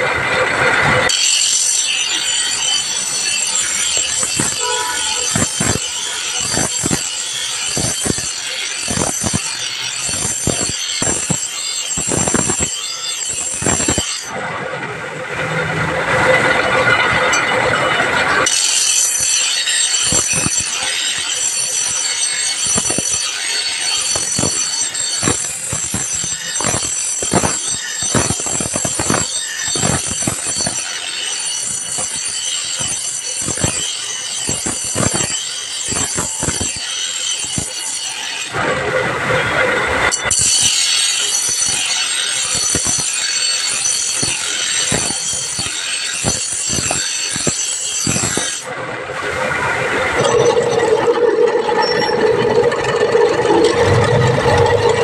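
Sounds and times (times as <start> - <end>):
metal grinding screech: 0.6 - 14.6, 15.3 - 55.0.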